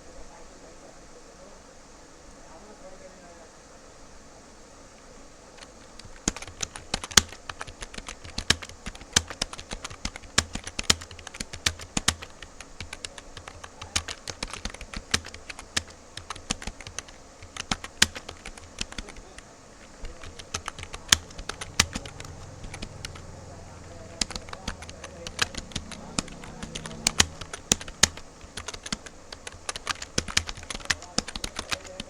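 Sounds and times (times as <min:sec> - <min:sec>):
keyboard keys clicking: 0:05.6 - 0:32.0.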